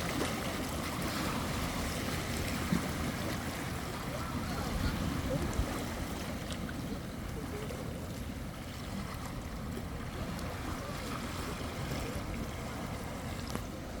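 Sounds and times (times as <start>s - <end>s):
sea waves washing on shore: 0.0s - 14.0s
wind rumbling on microphone: 0.0s - 14.0s.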